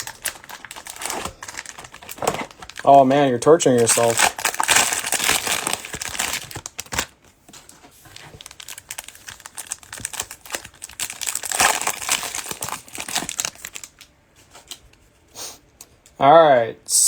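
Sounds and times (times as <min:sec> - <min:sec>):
plastic wrappers crinkling: 0:00.0 - 0:14.9.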